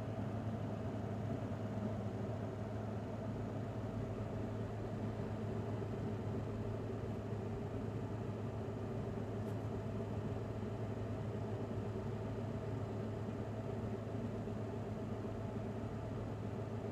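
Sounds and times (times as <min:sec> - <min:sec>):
dehumidifier low hum: 0:00.0 - 0:16.9.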